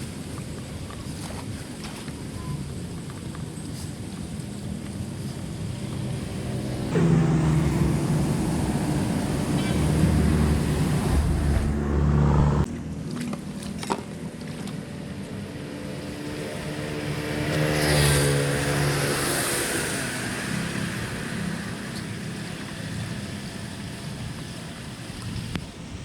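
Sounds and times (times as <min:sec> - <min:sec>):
engine running: 0:02.8 - 0:25.7.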